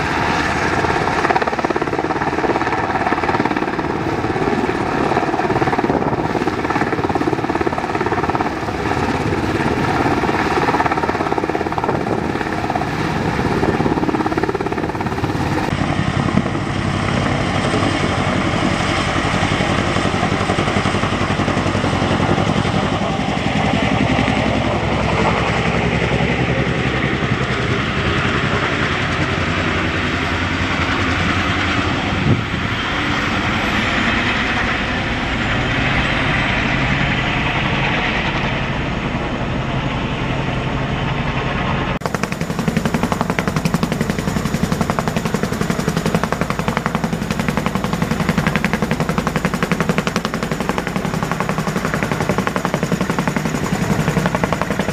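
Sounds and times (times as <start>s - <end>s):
helicopter rotor and turbine noise: 0.0s - 54.9s.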